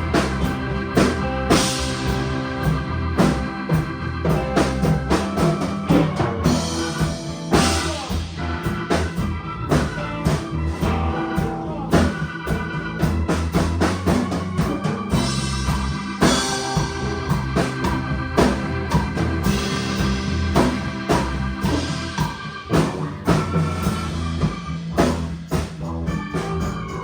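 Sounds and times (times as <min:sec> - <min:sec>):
band playing instrumental: 0:00.0 - 0:27.0
drum kit beat: 0:00.0 - 0:27.0.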